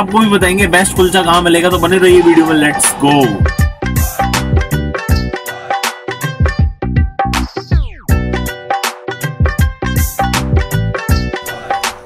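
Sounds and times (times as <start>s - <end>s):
funky reggae-like groove: 0.0s - 12.0s.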